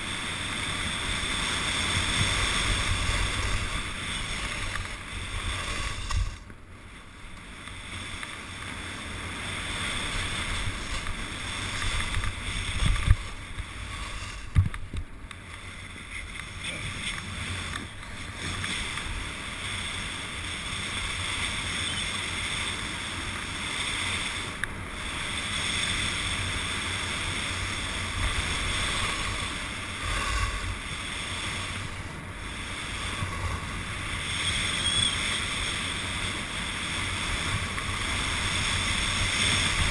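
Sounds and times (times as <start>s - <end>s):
skis hissing on snow: 0.0s - 14.6s, 15.6s - 39.9s
wind over microphone: 0.0s - 39.9s.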